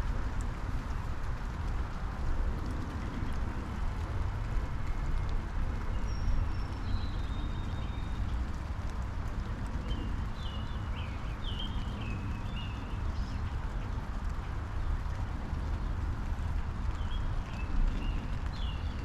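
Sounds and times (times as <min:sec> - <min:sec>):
rain falling on a bush: 0:00.0 - 0:19.0.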